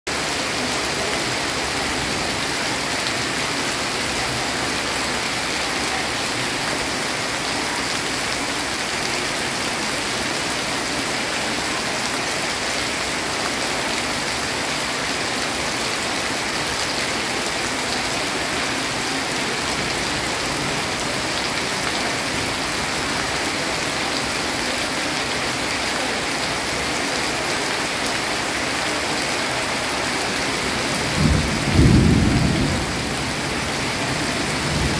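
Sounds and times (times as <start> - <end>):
rain dripping onto wet floor: 0.1 - 34.9.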